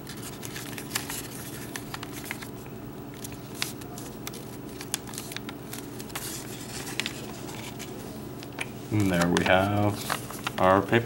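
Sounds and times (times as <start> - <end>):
paper crackling and rustling: 0.0 - 11.0
steady low hum: 0.0 - 11.0.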